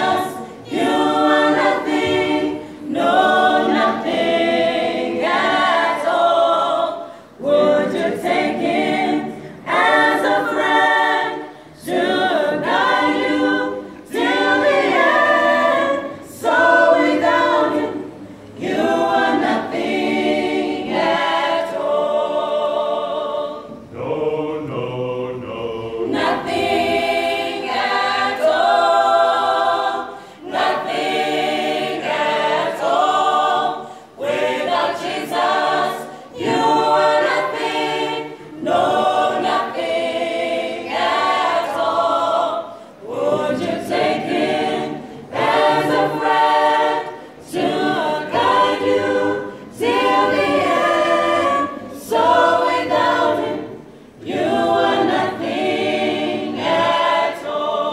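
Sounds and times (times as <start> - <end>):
choir singing a cappella: 0.0 - 57.9.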